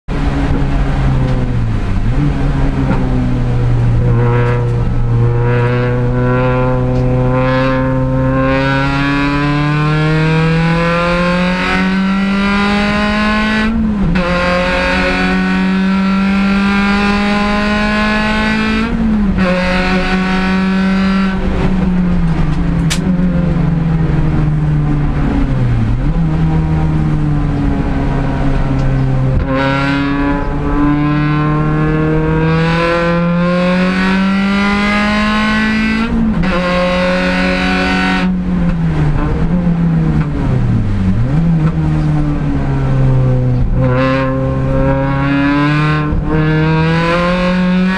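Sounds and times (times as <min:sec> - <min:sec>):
race car engine accelerating: 0:00.1 - 0:47.9.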